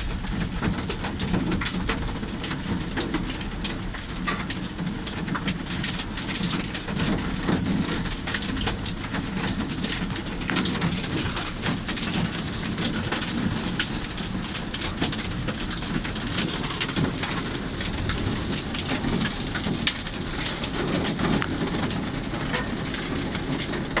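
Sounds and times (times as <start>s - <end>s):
heavy rain on car roof: 0.0s - 24.0s.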